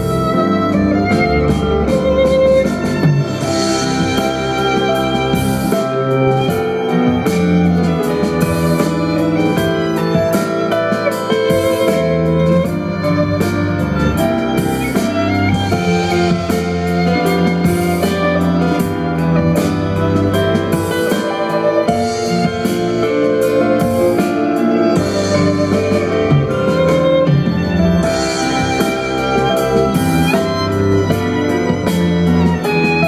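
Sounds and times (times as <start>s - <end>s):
violin and contrabass duo: 0.0s - 33.0s.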